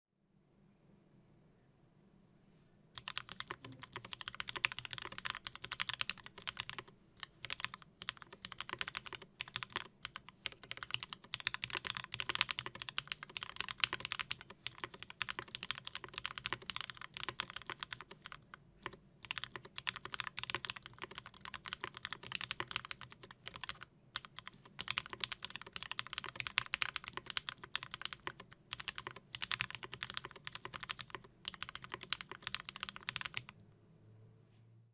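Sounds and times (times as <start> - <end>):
typing on mechanical keyboard: 3.0 - 33.6.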